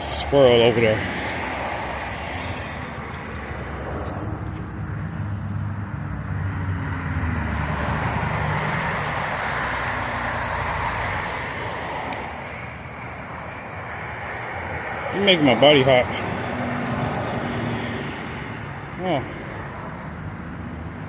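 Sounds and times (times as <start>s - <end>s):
steady traffic noise: 0.0s - 21.0s.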